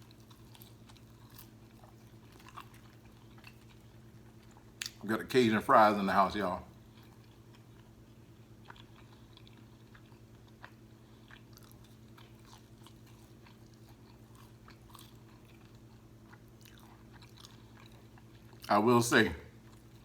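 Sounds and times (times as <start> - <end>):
chewing crispy food: 0.0 - 20.0
low steady hum: 0.0 - 20.0.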